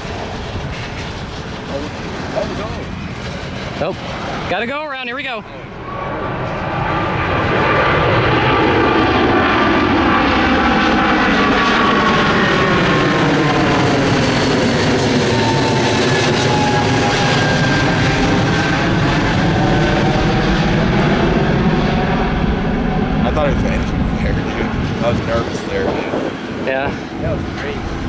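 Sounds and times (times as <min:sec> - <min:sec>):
jet engine roar with whine: 0:00.0 - 0:28.0.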